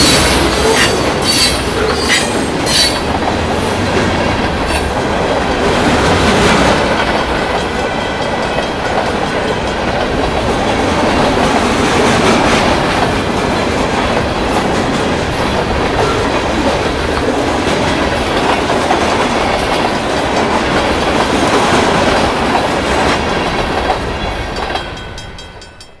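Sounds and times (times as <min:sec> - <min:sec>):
wheels clacking over rail joints: 0:00.0 - 0:25.8
train cars rumbling past: 0:00.0 - 0:26.0.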